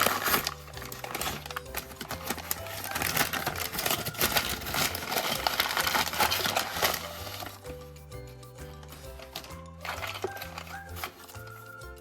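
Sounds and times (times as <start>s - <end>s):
plastic bag crinkling: 0.0s - 7.8s, 8.8s - 11.8s
background music: 0.0s - 12.0s.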